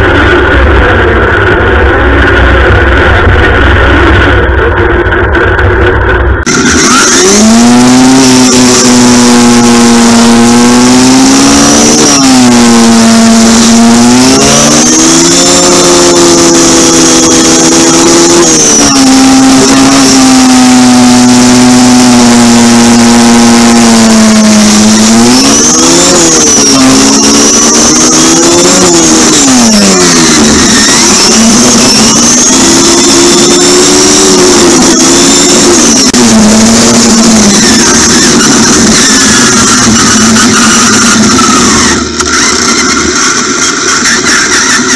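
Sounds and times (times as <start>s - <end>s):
lawn tractor motor whine: 0.0s - 44.9s.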